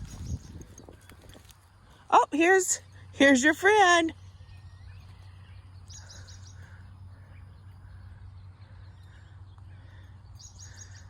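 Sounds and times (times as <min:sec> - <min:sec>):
low outdoor hum: 0:00.0 - 0:11.0
songbird chirping: 0:00.0 - 0:11.0.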